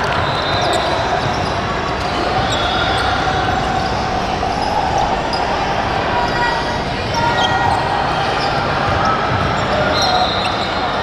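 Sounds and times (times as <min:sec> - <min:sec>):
crowd voices: 0:00.0 - 0:11.0.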